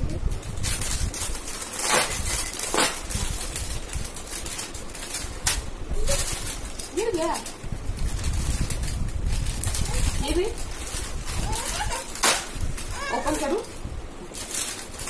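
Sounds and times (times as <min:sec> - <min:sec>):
low background rumble: 0:00.0 - 0:15.0
plastic packet crinkling: 0:00.3 - 0:15.0.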